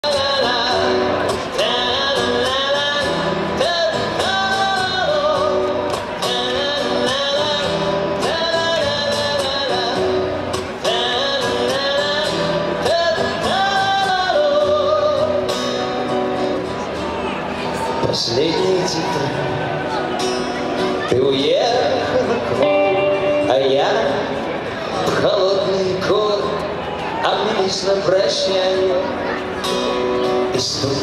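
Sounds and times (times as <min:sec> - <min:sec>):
live rock band playing: 0:00.1 - 0:31.0.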